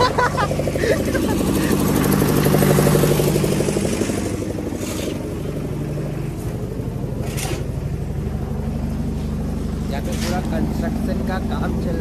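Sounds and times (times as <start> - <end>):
concrete mixer engine chugging: 0.0 - 12.0.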